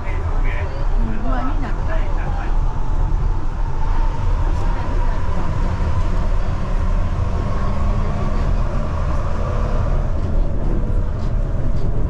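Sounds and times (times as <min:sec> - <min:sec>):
low rumble of people mover: 0:00.0 - 0:12.0.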